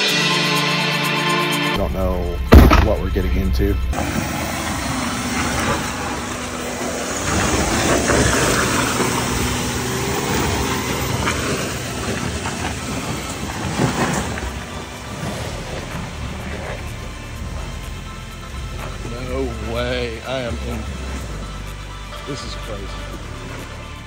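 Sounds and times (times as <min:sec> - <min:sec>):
vehicle engine rumble: 0:01.7 - 0:24.0
trailer knocks and rattles: 0:01.8 - 0:21.8.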